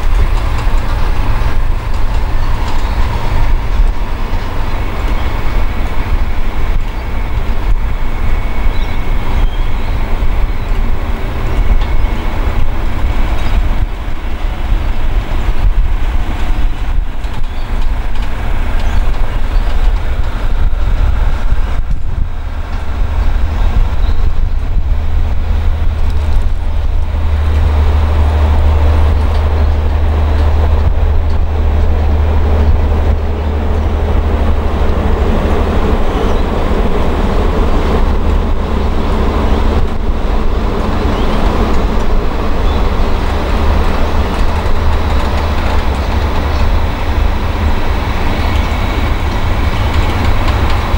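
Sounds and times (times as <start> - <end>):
train carriages rumbling on track: 0.0 - 50.9.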